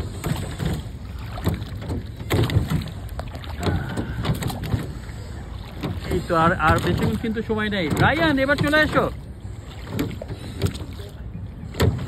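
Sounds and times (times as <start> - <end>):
oars splashing water: 0.0 - 12.0
water lapping around hull: 0.0 - 12.0.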